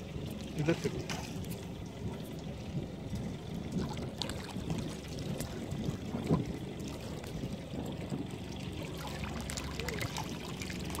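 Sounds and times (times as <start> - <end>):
low steady rumble: 0.0 - 11.0
small water splashes: 0.0 - 11.0
water lapping and sloshing: 0.0 - 11.0.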